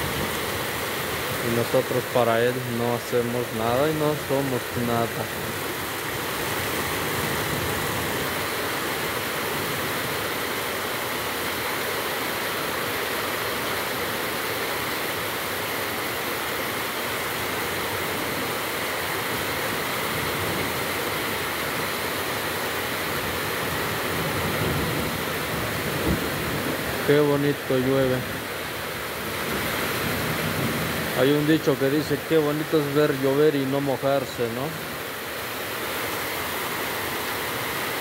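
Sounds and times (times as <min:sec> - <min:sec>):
heavy rain hissing: 0:00.0 - 0:38.0.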